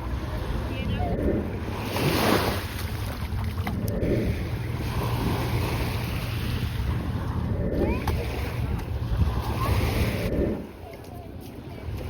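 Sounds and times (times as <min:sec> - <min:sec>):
sea waves breaking on beach: 0:00.0 - 0:12.0
wind rumble on microphone: 0:00.0 - 0:12.0.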